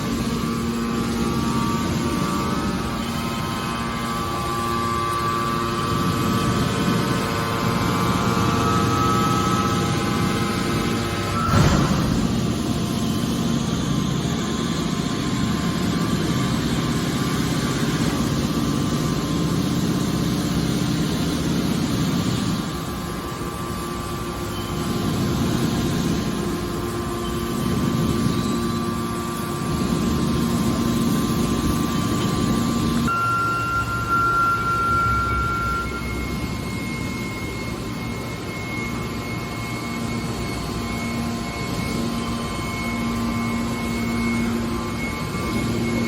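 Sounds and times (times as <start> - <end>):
high whine: 0.0 - 46.0
hydraulic baler humming: 0.0 - 46.0.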